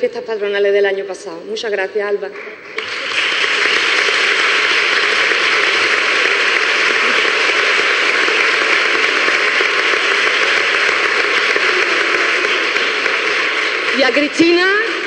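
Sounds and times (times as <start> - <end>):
crowd applauding: 2.3 - 15.0.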